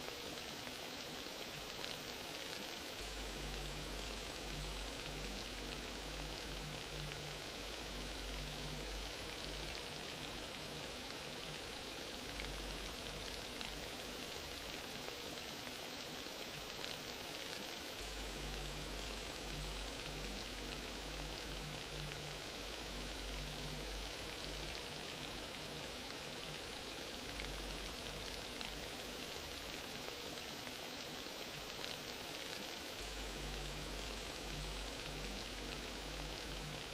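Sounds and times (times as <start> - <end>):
wood fire crackling and hissing: 0.0 - 36.9.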